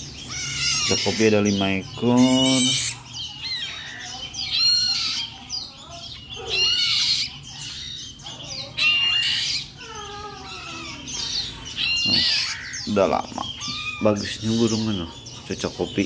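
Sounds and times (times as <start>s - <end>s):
nestlings squawking begging calls: 0.0s - 16.0s.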